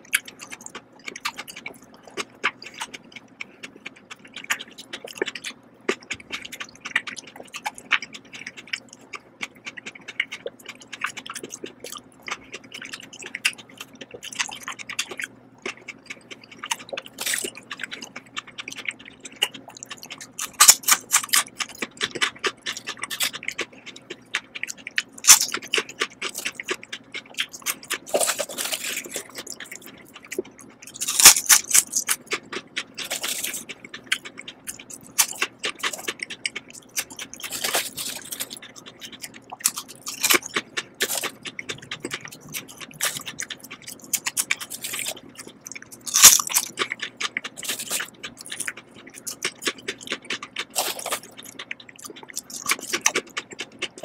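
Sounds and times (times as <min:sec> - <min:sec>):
faint steady hum: 0:00.0 - 0:54.0
potato chips crunching: 0:04.2 - 0:54.0.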